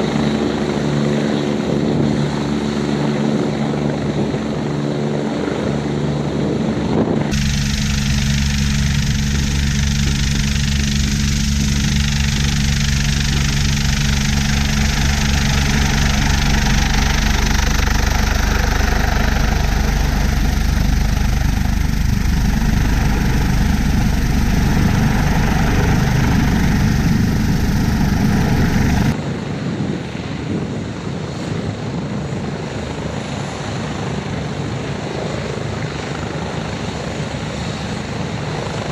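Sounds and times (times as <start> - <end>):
helicopter engines and rotor: 0.0 - 38.9.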